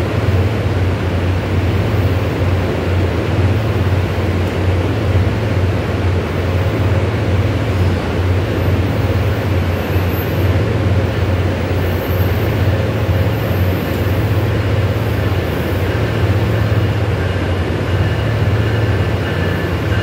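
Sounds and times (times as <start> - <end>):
train low hum and rumble: 0.0 - 20.0.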